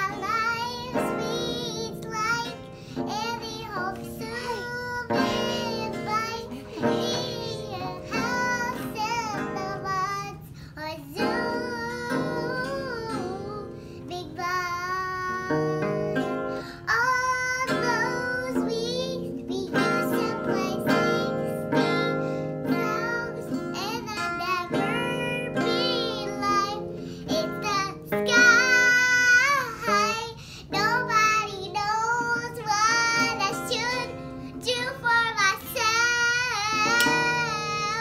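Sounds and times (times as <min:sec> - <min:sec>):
acoustic guitar strumming: 0:00.0 - 0:38.0
girl singing: 0:00.0 - 0:38.0.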